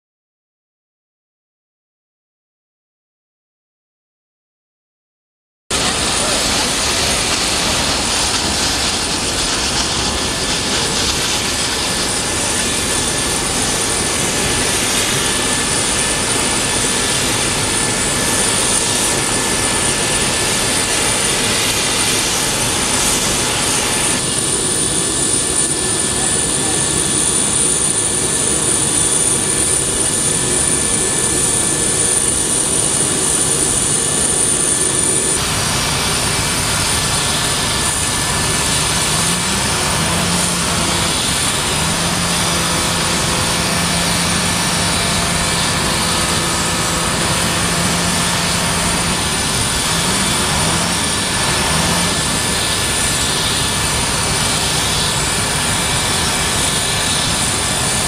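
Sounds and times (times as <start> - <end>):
jet aircraft noise: 5.7 - 58.0
low engine drone: 5.7 - 58.0.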